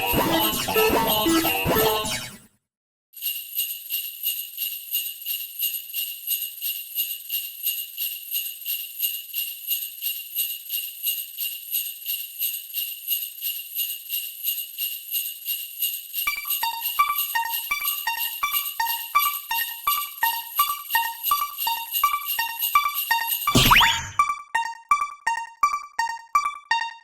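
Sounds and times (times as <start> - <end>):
jingle bells shaken: 0.0 - 2.3, 3.2 - 23.8.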